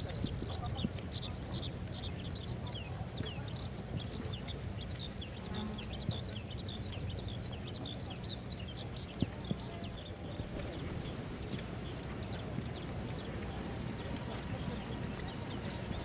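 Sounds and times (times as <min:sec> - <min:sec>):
distant jet engines rumbling: 0:00.0 - 0:16.0
small birds chirping: 0:00.0 - 0:16.0.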